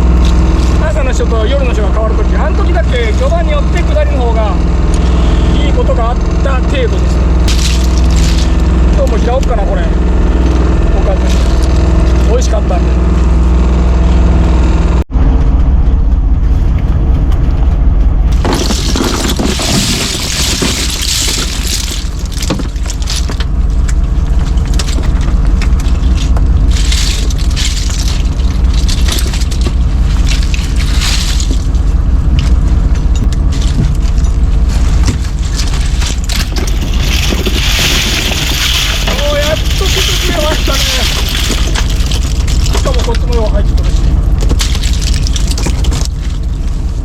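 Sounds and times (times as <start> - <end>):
splashing and rattling: 0.0 - 5.2, 5.8 - 13.7, 18.2 - 47.0
boat engine rumbling: 0.0 - 47.0.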